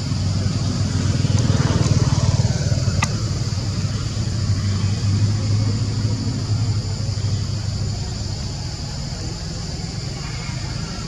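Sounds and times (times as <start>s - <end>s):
high-pitched hiss: 0.0s - 11.0s
motor engine running: 0.0s - 11.0s.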